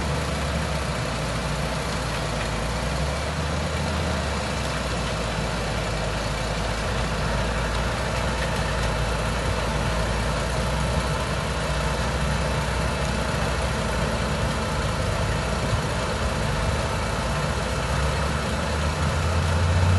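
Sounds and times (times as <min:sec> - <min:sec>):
diesel engine and machinery din: 0:00.0 - 0:19.9.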